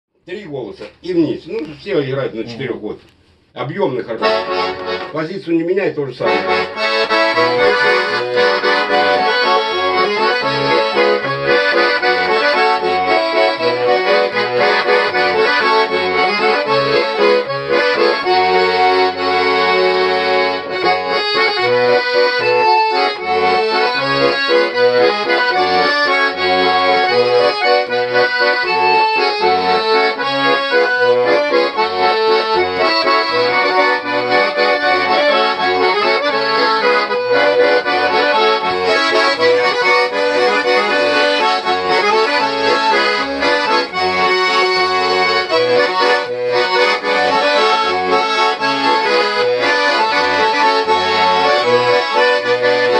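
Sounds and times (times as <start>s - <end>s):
button accordion playing: 0.8s - 52.9s.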